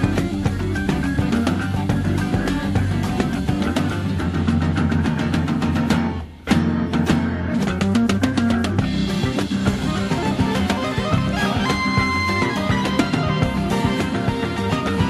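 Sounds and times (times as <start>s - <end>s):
progressive rock music: 0.0s - 15.0s.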